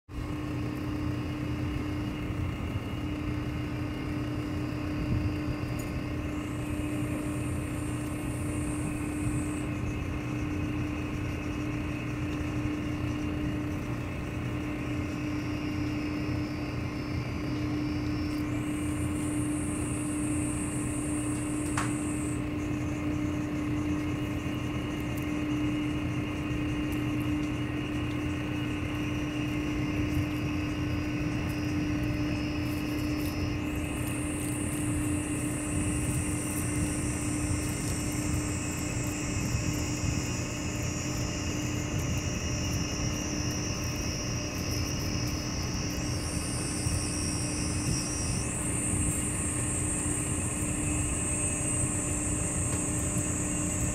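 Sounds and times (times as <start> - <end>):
machine hum: 0.1 - 53.9
high buzz: 0.4 - 53.9.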